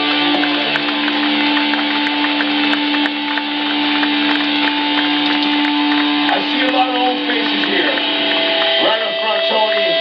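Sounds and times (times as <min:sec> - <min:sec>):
amplifier drone: 0:00.0 - 0:10.0
crowd cheering and shouting: 0:00.0 - 0:10.0.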